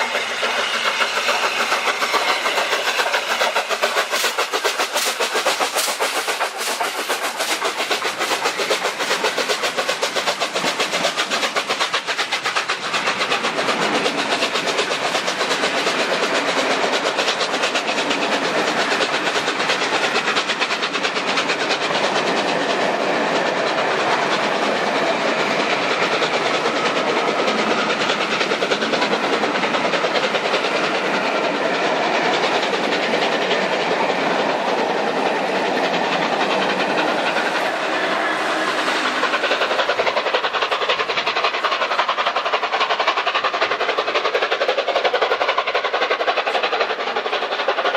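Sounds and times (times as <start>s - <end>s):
train coaches rolling: 0.0s - 47.9s
train wheels clicking over rail joints: 0.0s - 47.9s.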